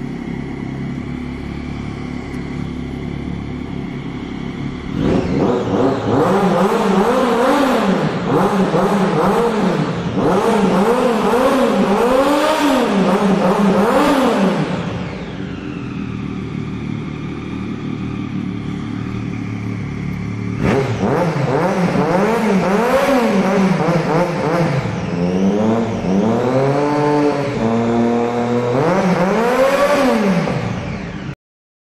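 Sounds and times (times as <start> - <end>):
motorcycle engine revving: 0.0 - 31.4.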